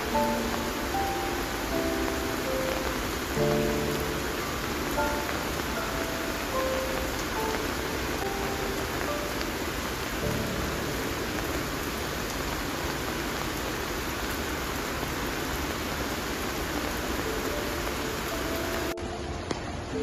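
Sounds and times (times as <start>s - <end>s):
heavy rain on foliage: 0.0s - 20.0s.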